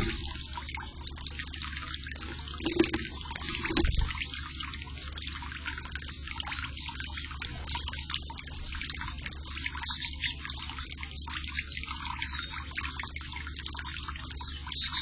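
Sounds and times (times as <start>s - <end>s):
fountain water splashing and trickling: 0.0s - 15.0s.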